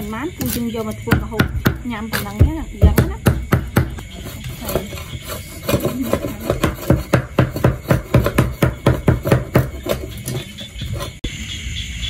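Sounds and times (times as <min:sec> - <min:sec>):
cleaver chopping on wooden block: 0:00.4 - 0:11.1.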